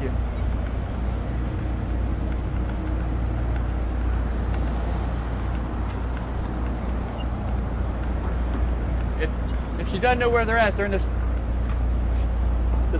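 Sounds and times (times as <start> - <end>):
constant noisy hiss: 0.0 - 12.9.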